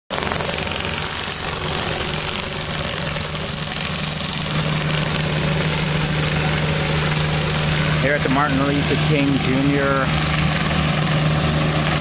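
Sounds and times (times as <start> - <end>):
diesel engine running: 0.1 - 12.0
high-pressure water spraying on paving: 0.1 - 12.0.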